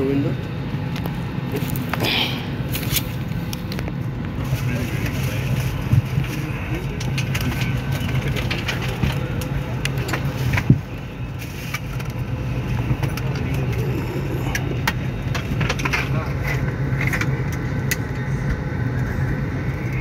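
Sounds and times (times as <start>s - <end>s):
airliner cabin hum: 0.0s - 20.0s
faint passenger chatter: 0.0s - 20.0s.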